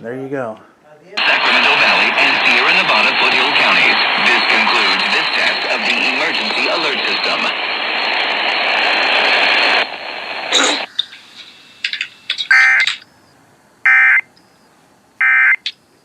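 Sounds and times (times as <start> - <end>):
noisy broadcast audio: 0.0 - 13.1.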